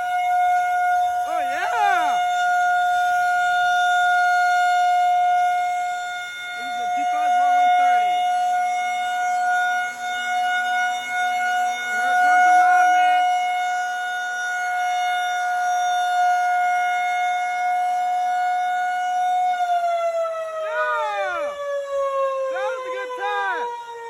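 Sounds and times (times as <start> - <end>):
rotating warning siren: 0.0 - 24.0.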